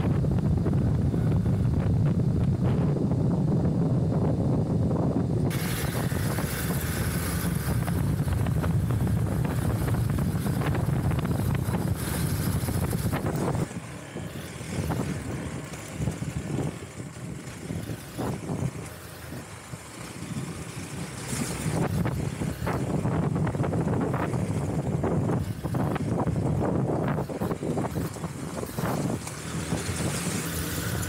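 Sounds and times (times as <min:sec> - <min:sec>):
knocks and rattles from rough road: 0:00.0 - 0:31.0
motorcycle engine rumbling: 0:00.0 - 0:31.0
wind buffeting on microphone: 0:00.0 - 0:31.0.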